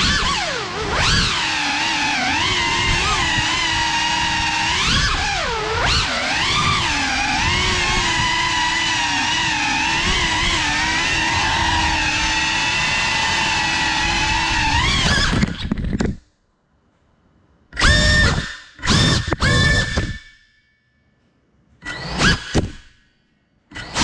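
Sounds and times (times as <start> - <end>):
drone motors whining: 0.0 - 16.2, 17.8 - 20.4, 21.8 - 23.0, 23.7 - 24.0.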